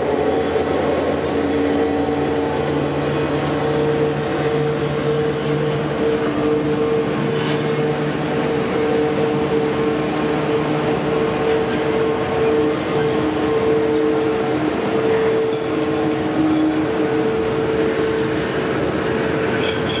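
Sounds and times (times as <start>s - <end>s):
diesel locomotive droning: 0.0s - 20.0s.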